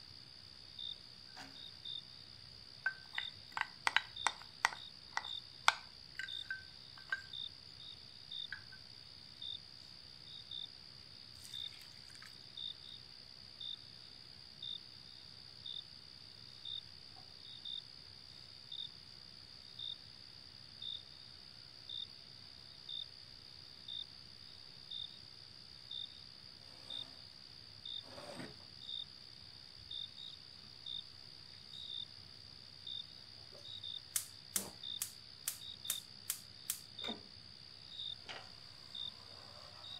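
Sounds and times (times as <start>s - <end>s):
cricket chirp: 0.0s - 39.9s
crickets trilling: 0.0s - 39.9s.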